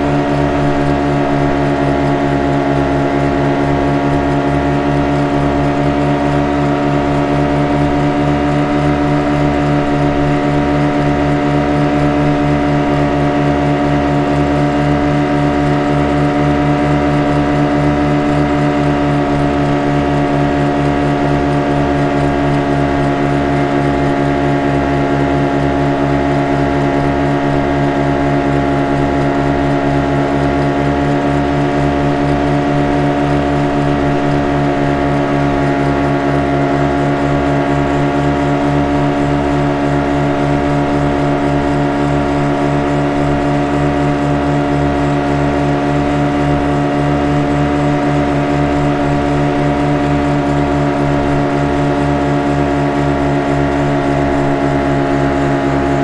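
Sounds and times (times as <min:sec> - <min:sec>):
speedboat engine running: 0:00.0 - 0:56.0.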